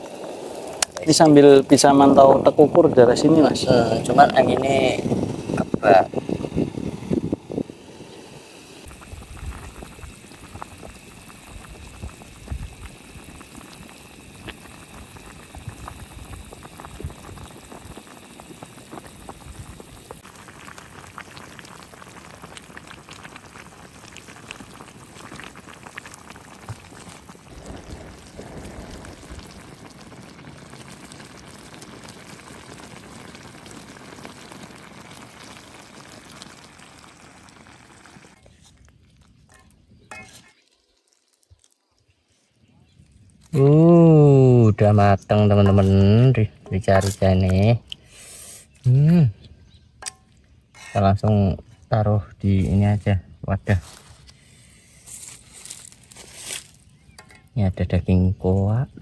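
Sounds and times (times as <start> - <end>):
stew bubbling at a boil: 0.0 - 59.0.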